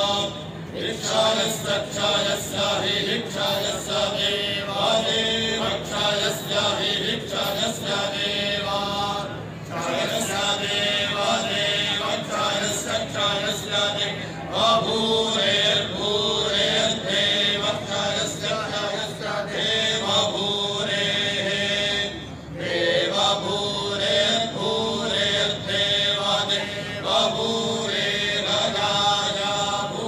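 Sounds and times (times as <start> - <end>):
men chanting in unison: 0.0 - 30.0.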